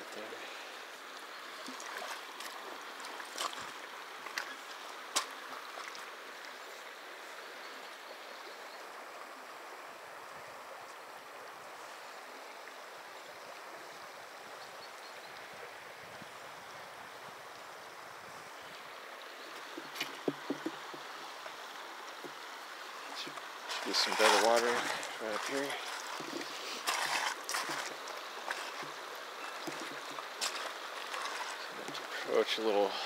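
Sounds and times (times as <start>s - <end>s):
river current flowing: 0.0s - 33.0s.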